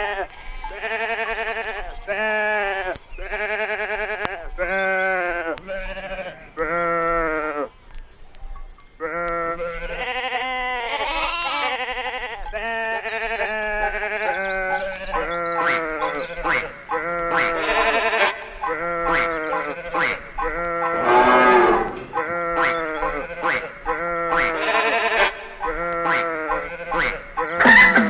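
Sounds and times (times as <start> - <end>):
sheep bleating: 0.0 - 7.7, 9.0 - 28.0.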